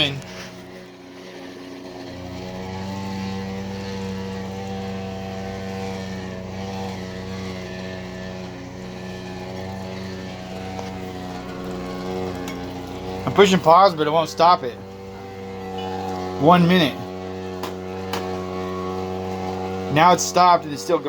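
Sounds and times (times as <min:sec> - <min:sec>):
washing machine buzzing hum: 0:00.0 - 0:21.0.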